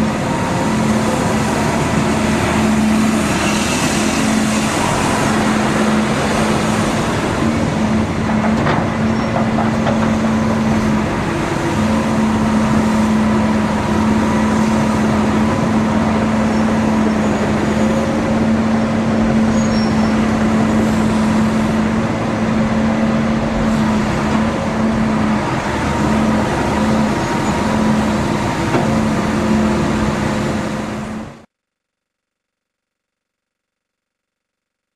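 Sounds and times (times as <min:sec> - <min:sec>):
diesel excavator engine running: 0:00.0 - 0:31.5.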